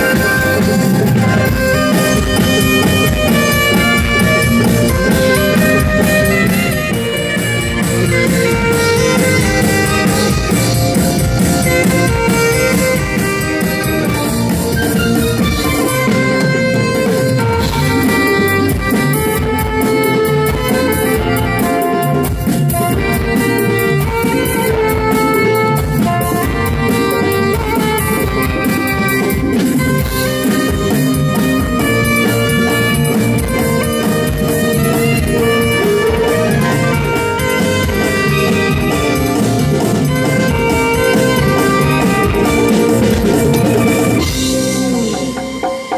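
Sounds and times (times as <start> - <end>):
live band playing: 0.0 - 45.9
saxophone melody: 0.0 - 45.9.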